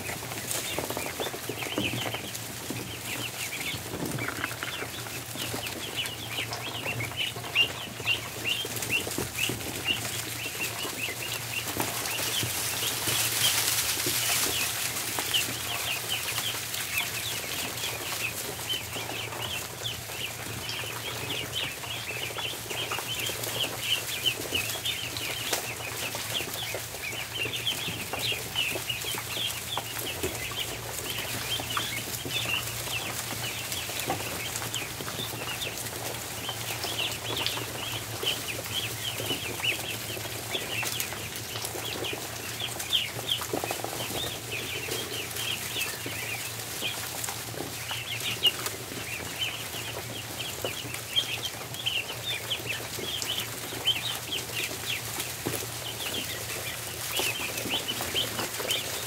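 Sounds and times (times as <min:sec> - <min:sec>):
ducklings peeping: 0:00.0 - 0:59.0
small ticks and knocks: 0:00.0 - 0:59.0.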